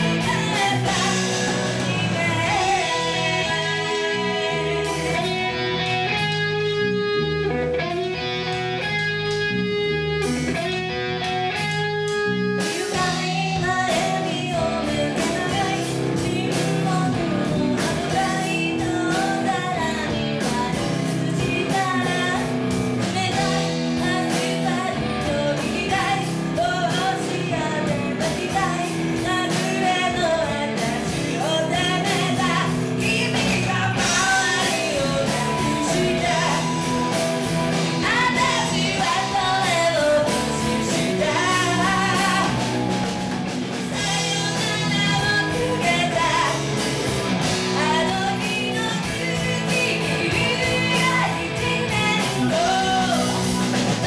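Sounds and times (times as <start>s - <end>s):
woman singing: 0.0s - 6.5s, 12.6s - 54.0s
live rock band: 0.0s - 54.0s.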